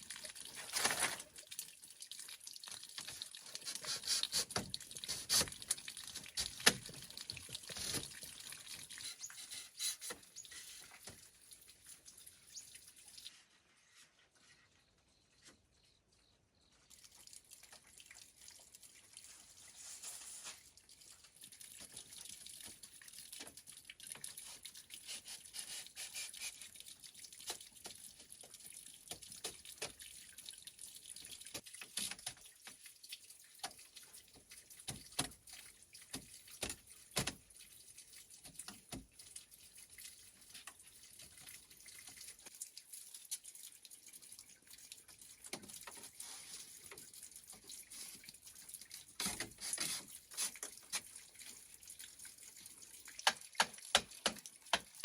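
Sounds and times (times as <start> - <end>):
tap water running into sink: 0.0 - 13.3, 16.9 - 55.0.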